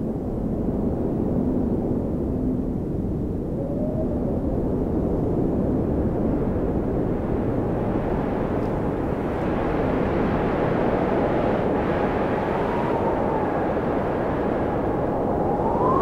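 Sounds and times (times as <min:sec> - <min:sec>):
faint wavering wind whistle: 0:00.0 - 0:16.0
snowstorm wind rushing: 0:00.2 - 0:16.0.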